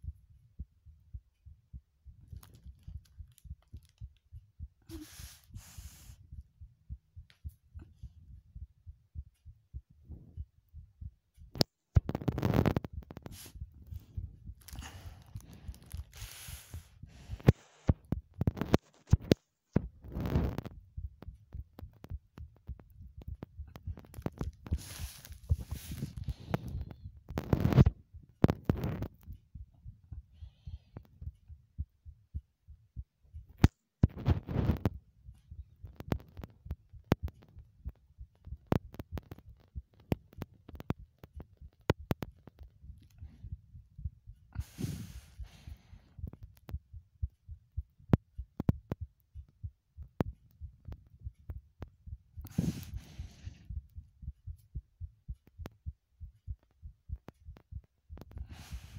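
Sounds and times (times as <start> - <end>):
heartbeat thuds: 0.0 - 58.9.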